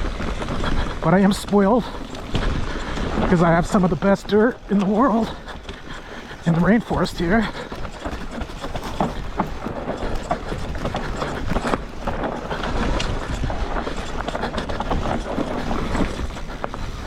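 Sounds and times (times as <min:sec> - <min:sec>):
bike rattling clicks and knocks: 0:00.0 - 0:17.0
bike tyres rolling on dirt: 0:00.0 - 0:17.0
wind rumble on microphone: 0:00.0 - 0:17.0.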